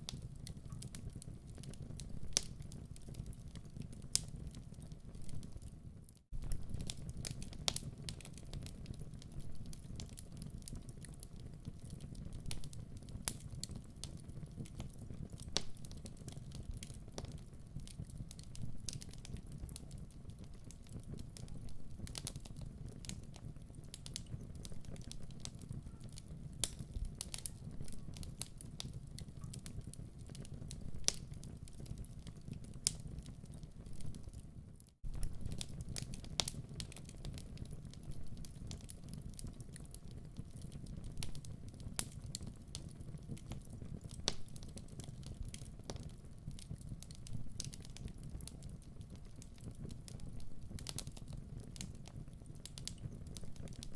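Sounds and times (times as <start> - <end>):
burning logs popping and crackling: 0.0 - 53.9
fire flames rumbling: 0.0 - 53.9.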